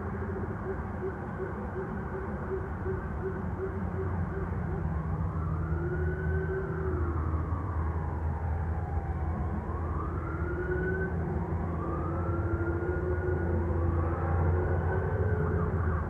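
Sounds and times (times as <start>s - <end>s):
emergency sirens wailing: 0.0s - 16.0s.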